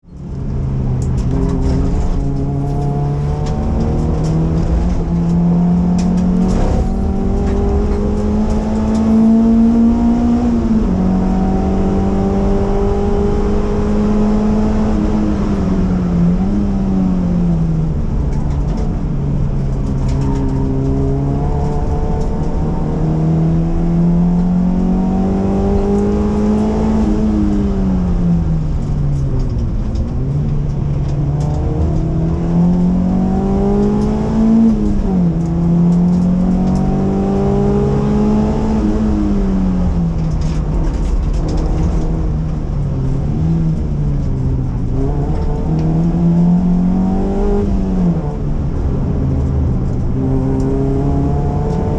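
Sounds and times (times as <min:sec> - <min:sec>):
car engine revving through gears: 0:00.1 - 0:51.9.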